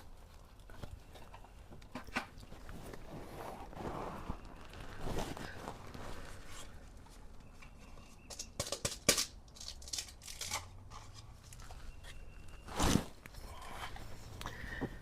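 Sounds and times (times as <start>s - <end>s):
soft rustling: 0.0s - 8.2s, 10.9s - 15.0s.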